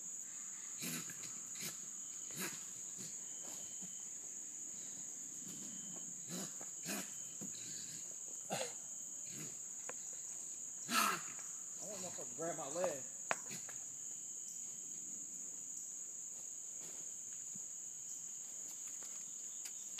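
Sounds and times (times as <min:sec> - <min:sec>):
night insects chirping: 0:00.0 - 0:19.9.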